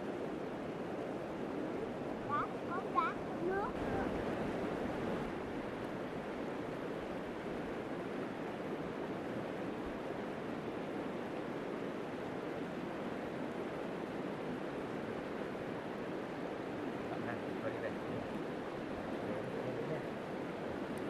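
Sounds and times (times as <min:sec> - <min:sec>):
river flowing over stones: 0:00.0 - 0:21.0.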